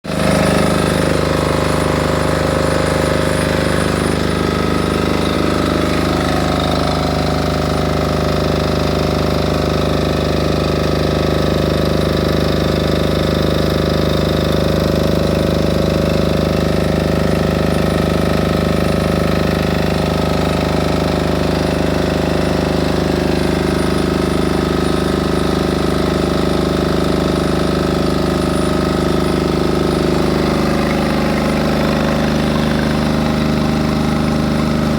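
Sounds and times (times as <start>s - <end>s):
diesel generator running: 0.0s - 34.9s.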